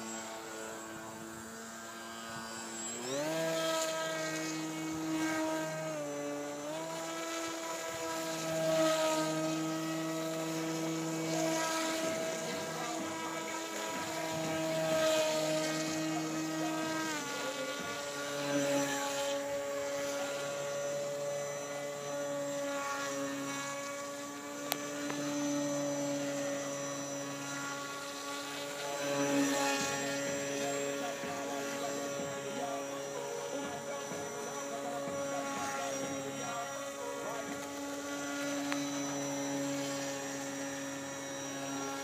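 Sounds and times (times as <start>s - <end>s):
model airboat motor whining: 0.0s - 42.0s.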